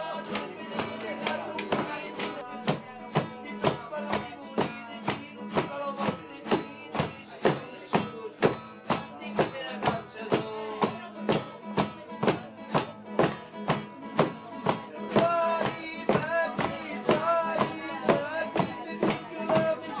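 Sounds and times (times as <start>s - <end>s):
music with steady beat: 0.0s - 20.0s.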